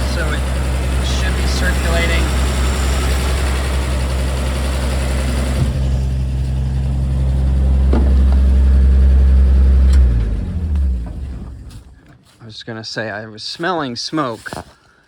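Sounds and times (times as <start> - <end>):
truck engine idling: 0.0 - 12.1.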